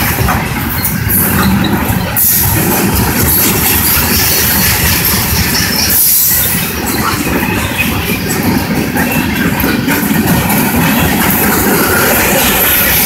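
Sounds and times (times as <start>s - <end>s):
train wheels rumbling on rails: 0.0s - 13.0s
wheel squeals: 0.0s - 13.0s.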